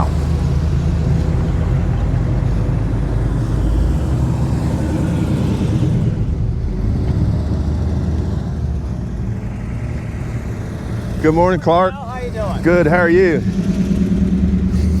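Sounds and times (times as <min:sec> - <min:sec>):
car engines running low: 0:00.0 - 0:15.0.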